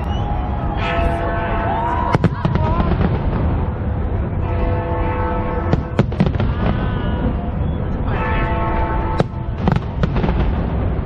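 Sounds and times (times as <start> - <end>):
low rumble of firework bursts: 0.0 - 11.0.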